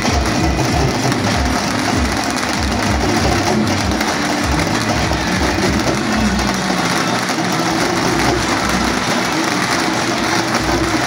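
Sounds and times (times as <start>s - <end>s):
large street crowd din: 0.0s - 11.0s.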